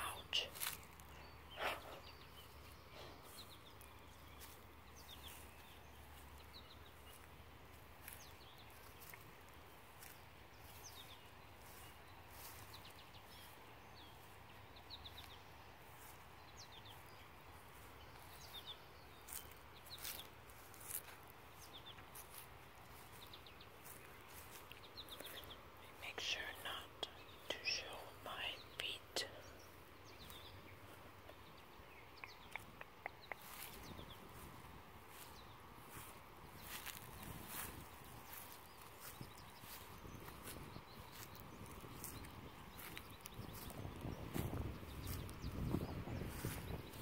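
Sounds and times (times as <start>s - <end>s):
faint birds chirping: 0.0s - 47.0s
footsteps rustling through grass: 0.4s - 26.0s, 29.5s - 47.0s.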